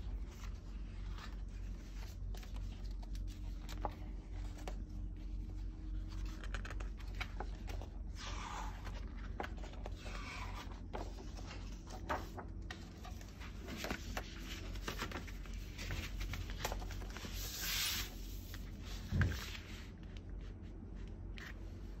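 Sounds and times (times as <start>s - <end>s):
book pages turning: 0.1s - 22.0s.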